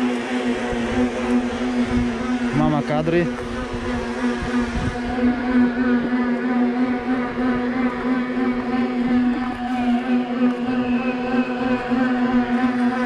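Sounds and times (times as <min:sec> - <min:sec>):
bicycle rollers whining hum: 0:00.0 - 0:13.0.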